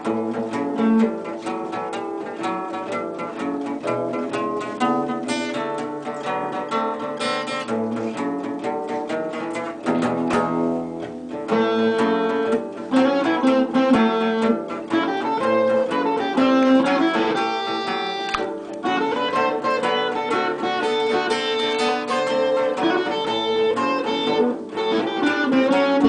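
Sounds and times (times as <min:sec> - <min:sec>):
acoustic guitars playing: 0:00.0 - 0:26.0.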